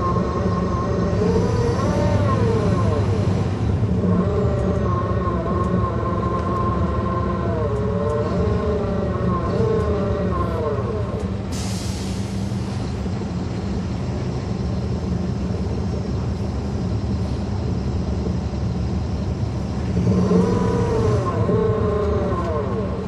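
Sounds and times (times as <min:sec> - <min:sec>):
bus axle whine: 0:00.0 - 0:23.0
diesel bus engine running: 0:00.0 - 0:23.0.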